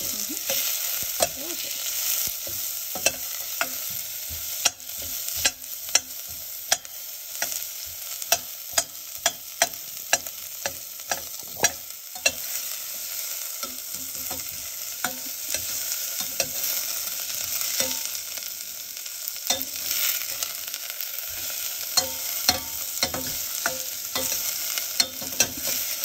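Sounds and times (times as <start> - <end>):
onions sizzling in hot ghee: 0.0 - 26.0.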